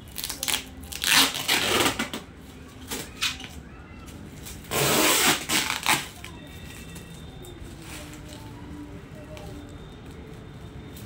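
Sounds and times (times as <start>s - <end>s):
bubble wrap crinkling and tearing: 0.0s - 11.0s.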